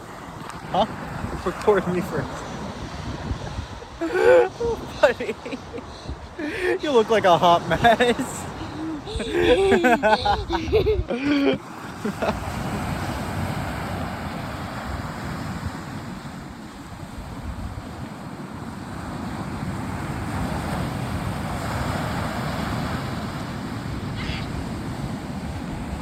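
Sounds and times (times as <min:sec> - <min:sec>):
wind on microphone: 0:00.0 - 0:11.6, 0:12.3 - 0:26.0
surf washing: 0:00.0 - 0:26.0.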